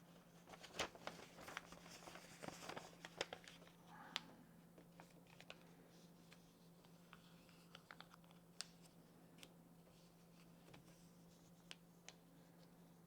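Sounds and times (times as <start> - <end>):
paper rustling and folding: 0.0 - 4.0, 4.7 - 13.0
faint steady hum: 0.0 - 13.0.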